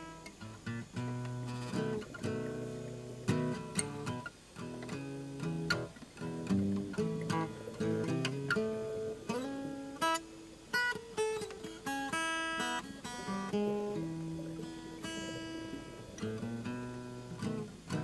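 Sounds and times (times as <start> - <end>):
acoustic guitar plucked notes: 0.0 - 18.0.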